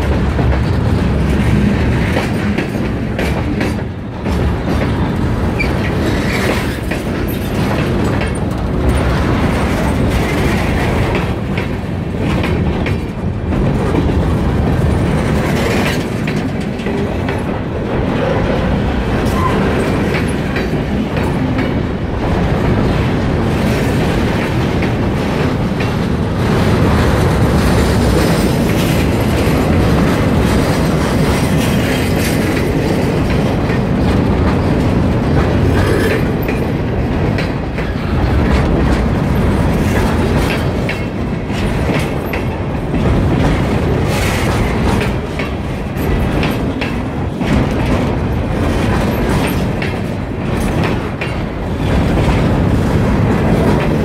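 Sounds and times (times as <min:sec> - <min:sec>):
freight train rumble: 0:00.0 - 0:54.0
steel wheels clacking on rail joints: 0:00.0 - 0:54.0.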